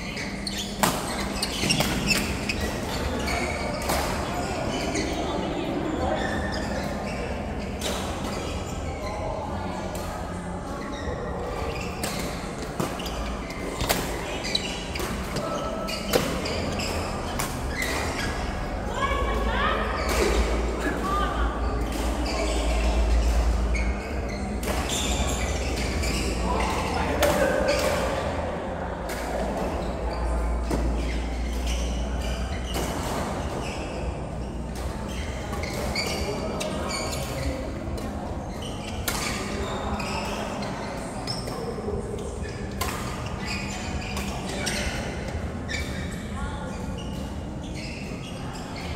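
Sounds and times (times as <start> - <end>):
shoes squeaking on court: 0.0 - 28.4, 29.3 - 48.9.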